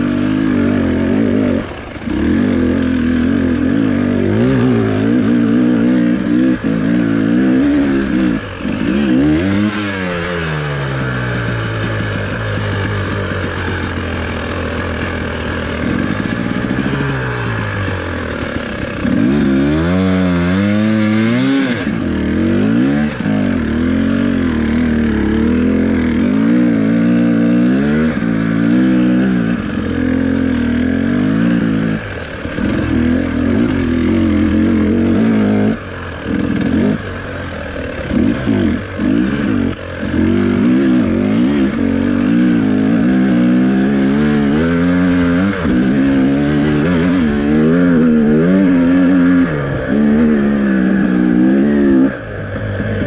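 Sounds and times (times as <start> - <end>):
two-stroke dirt bike engine revving: 0.0 - 53.0.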